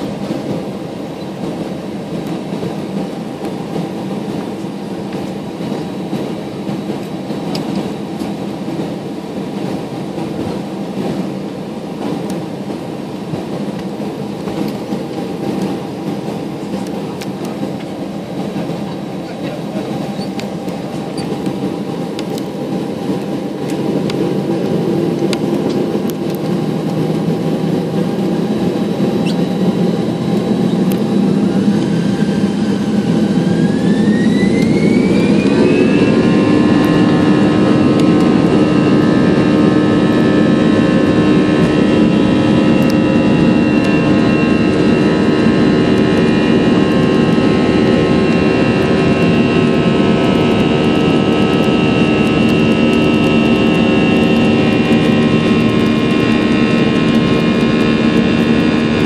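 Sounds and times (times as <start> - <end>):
jet engine roar: 0.0 - 59.0
jet engine whine: 0.0 - 59.0.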